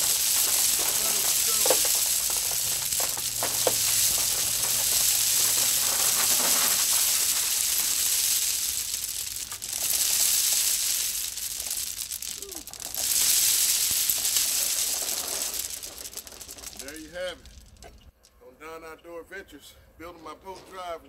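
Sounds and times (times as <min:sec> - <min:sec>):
gravel sliding and spilling: 0:00.0 - 0:18.1.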